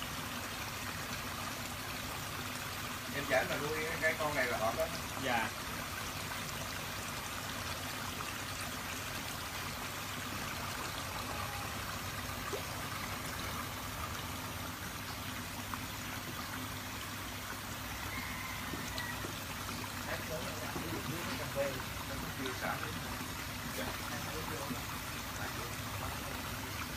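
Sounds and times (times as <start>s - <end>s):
water trickling in a pond: 0.0s - 26.9s.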